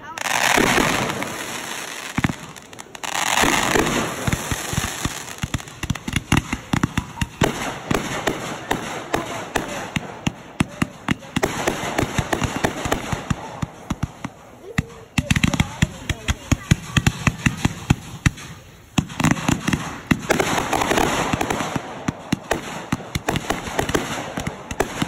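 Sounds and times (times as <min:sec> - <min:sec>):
firework hissing rush: 0:00.0 - 0:25.0
fireworks popping and crackling: 0:00.0 - 0:25.0.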